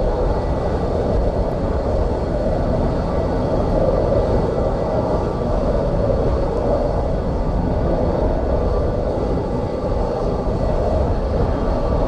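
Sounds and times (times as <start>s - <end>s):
jet engines droning: 0.0s - 12.0s
wind buffeting microphone: 0.0s - 12.0s.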